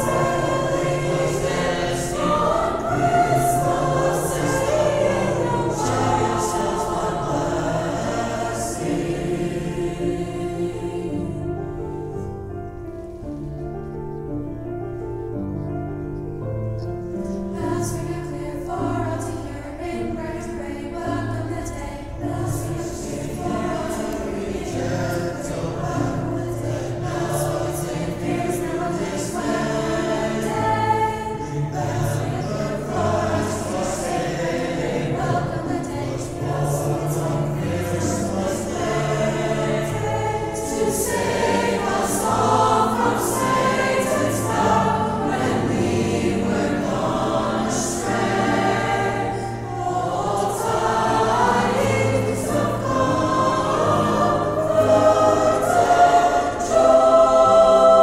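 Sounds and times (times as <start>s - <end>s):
choir singing a holiday song: 0.0s - 13.3s, 17.0s - 58.0s.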